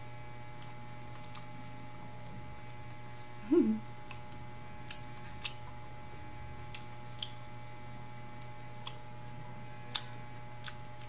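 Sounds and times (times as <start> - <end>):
low electrical hum: 0.0 - 11.0
soft chewing: 0.5 - 7.6, 8.2 - 11.0.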